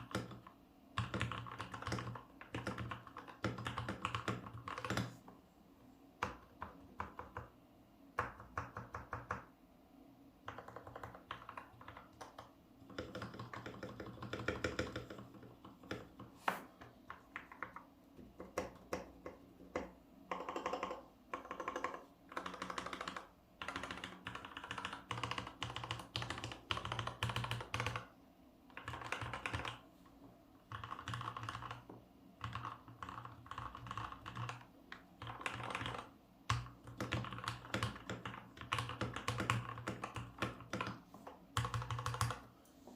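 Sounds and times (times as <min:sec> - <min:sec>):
typing on mechanical keyboard: 0:00.0 - 0:05.2, 0:06.2 - 0:07.5, 0:08.2 - 0:09.5, 0:10.4 - 0:28.1, 0:28.7 - 0:29.8, 0:30.7 - 0:42.5.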